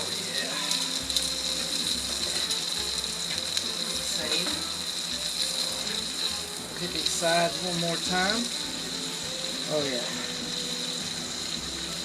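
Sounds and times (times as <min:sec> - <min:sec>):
steak sizzling on griddle: 0:00.0 - 0:12.0.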